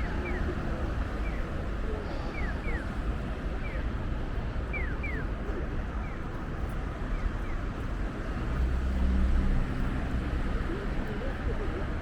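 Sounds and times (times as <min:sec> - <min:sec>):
low city rumble: 0:00.0 - 0:12.0.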